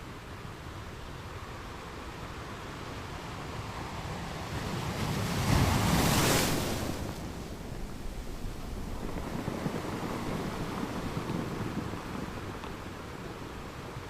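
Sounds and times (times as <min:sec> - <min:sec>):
ocean waves on shore: 0:00.1 - 0:14.0.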